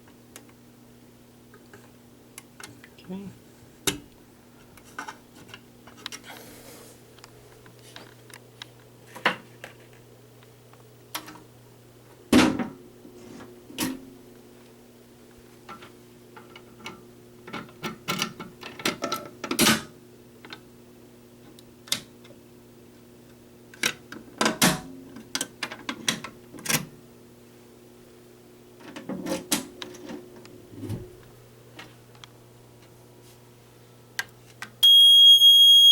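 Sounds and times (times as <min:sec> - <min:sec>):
steady low electrical hum: 0:00.0 - 0:35.9.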